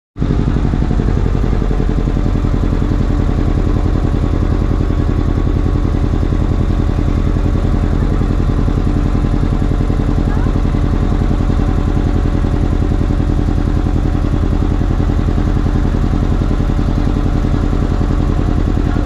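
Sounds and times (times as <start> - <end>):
small boat engine running: 0.2 - 19.0.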